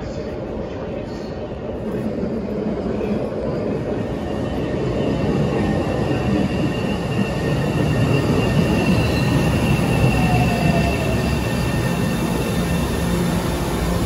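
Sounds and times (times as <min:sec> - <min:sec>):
falling whine of train: 0:00.0 - 0:14.0
subway train wheels rumbling: 0:00.0 - 0:14.0.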